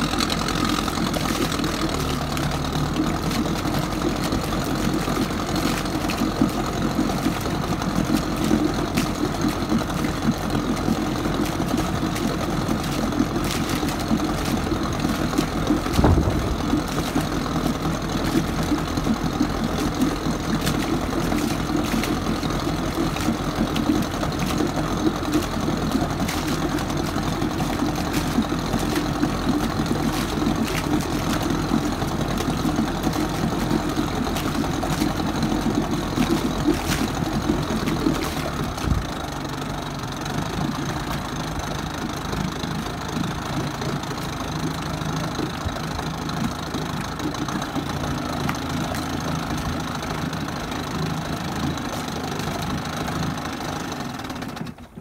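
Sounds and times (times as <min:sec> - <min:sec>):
outboard motor running: 0:00.0 - 0:55.0
propeller churning water: 0:00.0 - 0:55.0.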